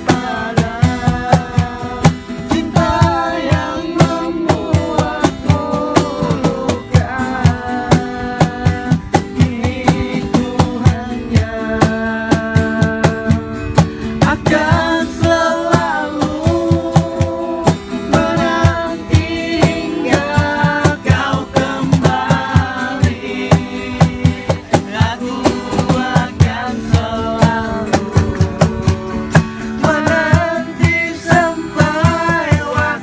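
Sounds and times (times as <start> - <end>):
guitar: 0.0 - 33.0
steady drum beat: 0.0 - 33.0.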